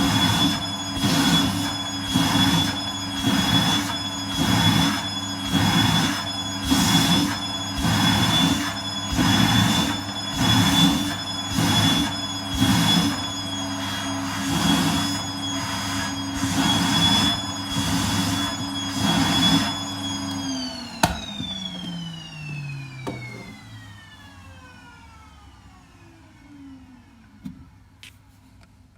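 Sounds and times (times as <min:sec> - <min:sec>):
vacuum cleaner running: 0:00.0 - 0:27.7.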